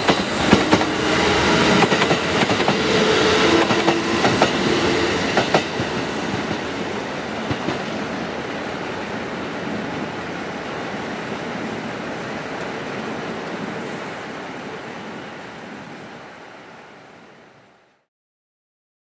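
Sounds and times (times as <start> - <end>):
electric train running on track: 0.0 - 16.5.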